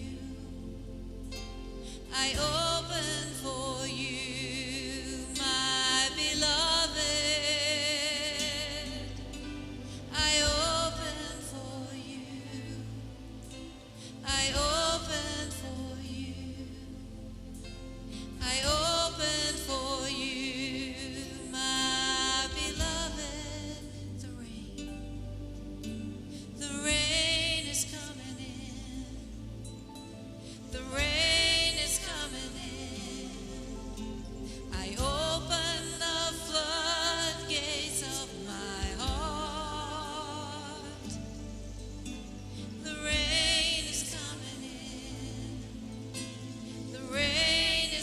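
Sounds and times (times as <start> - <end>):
person singing with vibrato: 0.0 - 25.2, 26.3 - 48.0
low sustained instrumental notes: 0.0 - 48.0.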